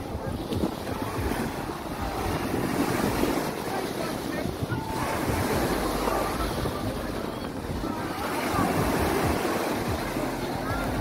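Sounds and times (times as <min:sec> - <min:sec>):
murmur of voices: 0:00.0 - 0:11.0
sea surf: 0:00.0 - 0:11.0
wind buffeting microphone: 0:00.0 - 0:11.0.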